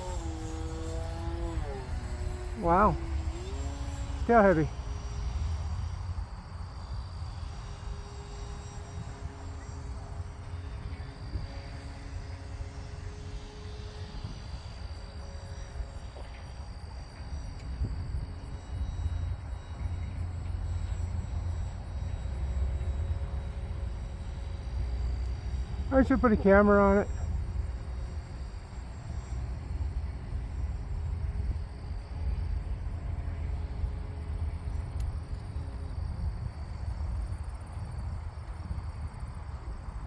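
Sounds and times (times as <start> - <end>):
rc plane motor whine: 0.0 - 40.0
wind rumble on microphone: 0.0 - 40.0.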